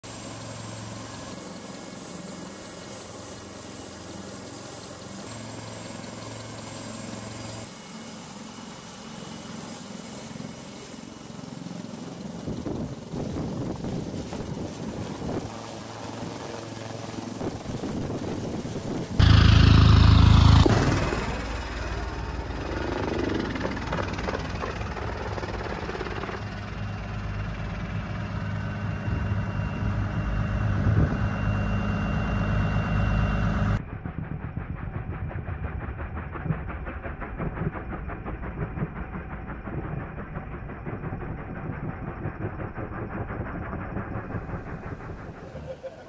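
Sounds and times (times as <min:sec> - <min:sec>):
helicopter rotor and engine: 0:00.0 - 0:46.0.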